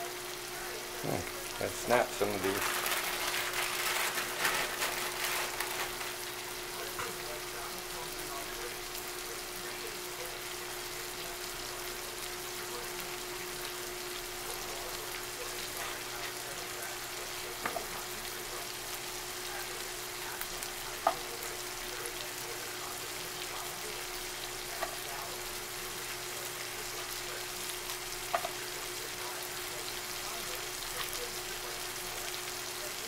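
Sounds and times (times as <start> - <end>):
chicken sizzling in a frying pan: 0.0 - 33.0.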